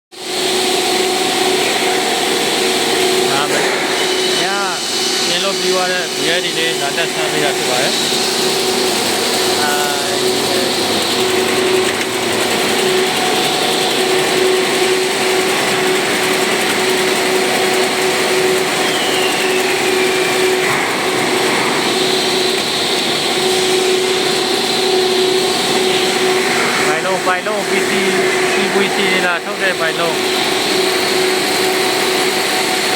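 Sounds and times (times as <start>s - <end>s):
machine whir and hum: 0.2s - 32.9s.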